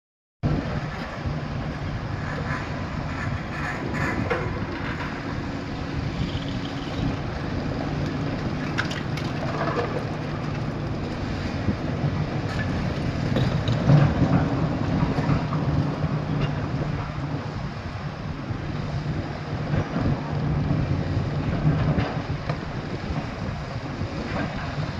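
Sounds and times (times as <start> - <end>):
heavy machinery running: 0.5 - 24.9.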